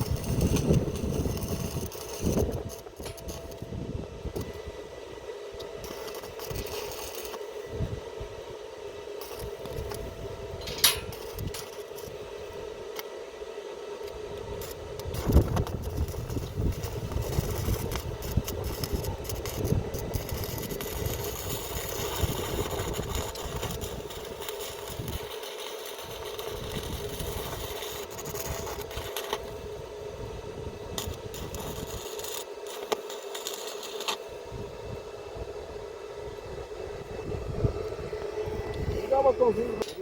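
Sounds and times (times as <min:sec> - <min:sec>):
arc welder crackling hiss: 0:00.0 - 0:36.8
arc welder hum: 0:00.0 - 0:40.0.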